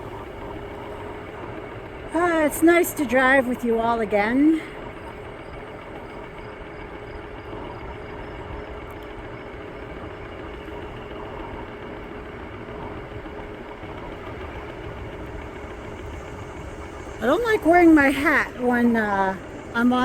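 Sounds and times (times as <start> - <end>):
electric scooter motor hum: 0.0 - 20.0
road rumble: 0.0 - 20.0.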